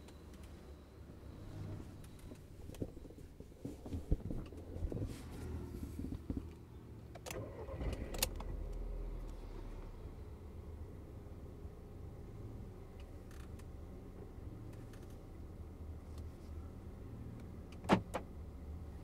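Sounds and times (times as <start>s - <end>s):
low rumble inside car cabin: 0.0s - 19.0s.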